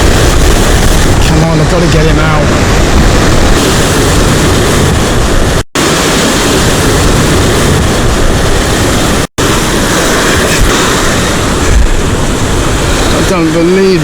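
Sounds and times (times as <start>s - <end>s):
surf breaking on rocky shore: 0.0s - 14.0s
wind noise: 0.0s - 14.0s.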